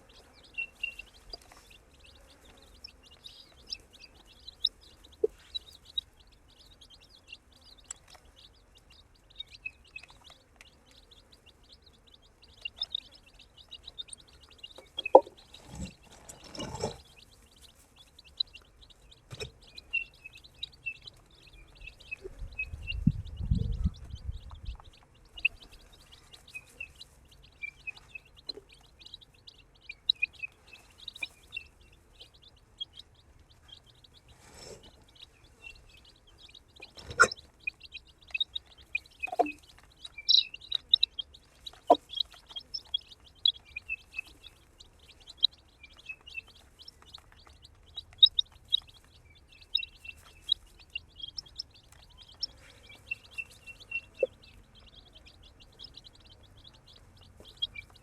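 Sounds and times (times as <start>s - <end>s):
baby chicks peeping: 0.0s - 58.0s.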